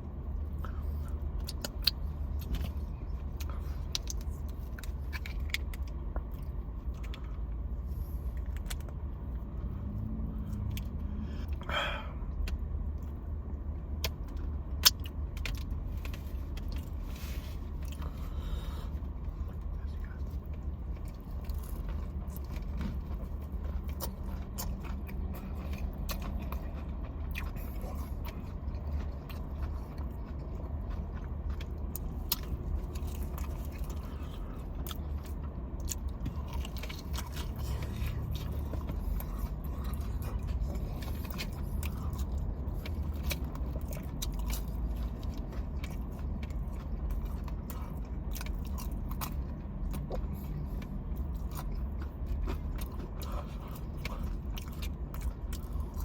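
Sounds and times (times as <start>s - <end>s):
person chewing fried food: 0.0s - 56.0s
steady low hum: 0.0s - 56.0s.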